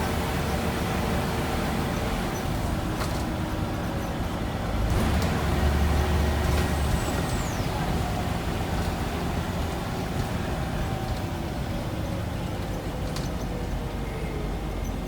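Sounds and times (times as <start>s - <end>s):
bus diesel engine rumble: 0.0s - 15.0s.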